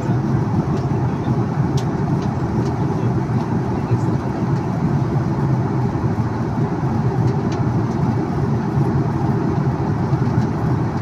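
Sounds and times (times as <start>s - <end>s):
jet airliner cabin drone: 0.0s - 11.0s.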